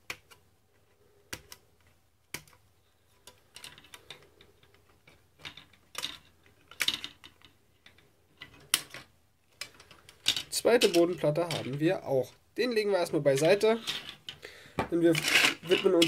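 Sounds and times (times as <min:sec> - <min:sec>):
plastic frame handled: 0:01.8 - 0:12.4, 0:13.0 - 0:16.0.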